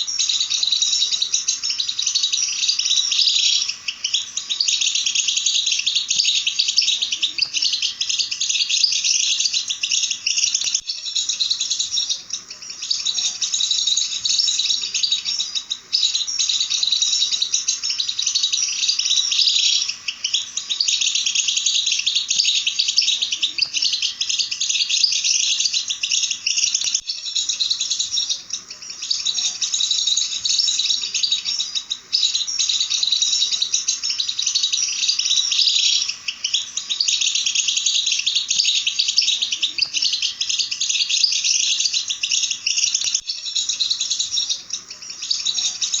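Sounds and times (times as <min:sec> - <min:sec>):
bird twittering song: 0:00.0 - 0:46.0.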